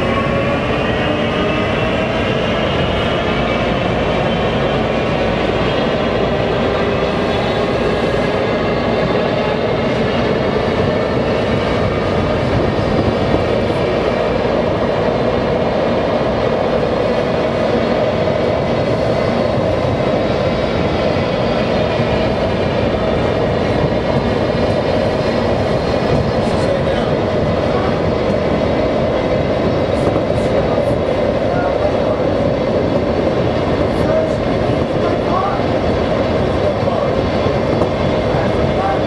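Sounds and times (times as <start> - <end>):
subway train wheels rumbling on rail: 0.0 - 39.0.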